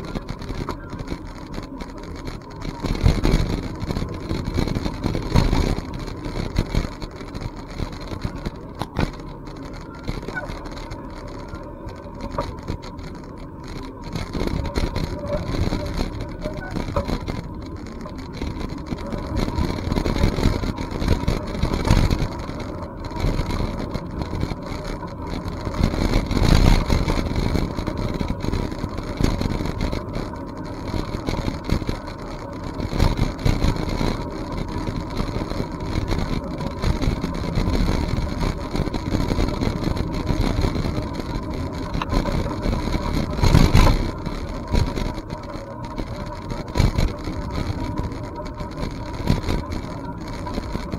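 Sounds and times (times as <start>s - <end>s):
bicycle rolling noise: 0.0s - 50.9s
faint steady whine: 0.0s - 50.9s
wind rumbling on microphone: 0.0s - 50.9s.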